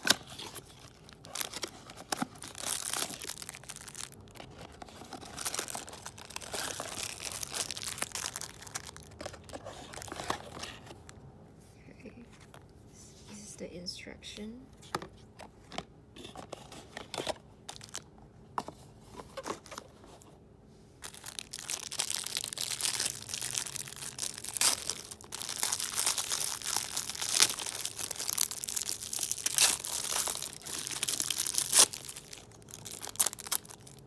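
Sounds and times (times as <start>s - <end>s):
packaging crinkling and rustling: 0.0s - 11.2s, 14.8s - 20.4s, 21.0s - 34.0s.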